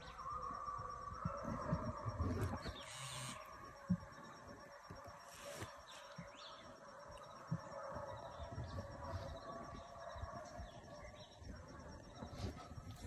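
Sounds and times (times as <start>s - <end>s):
distant hounds baying: 0.0s - 13.0s.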